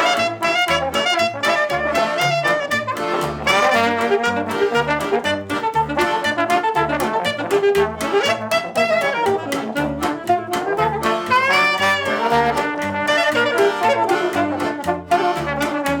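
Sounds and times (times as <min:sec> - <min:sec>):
wavering horn line: 0:00.0 - 0:15.9
band music with horns: 0:00.0 - 0:16.0.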